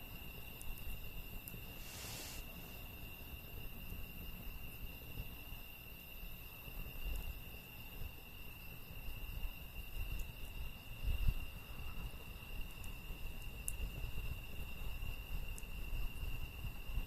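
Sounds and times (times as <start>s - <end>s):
campfire crackles: 0.0s - 17.0s
crickets chirping: 0.0s - 17.0s.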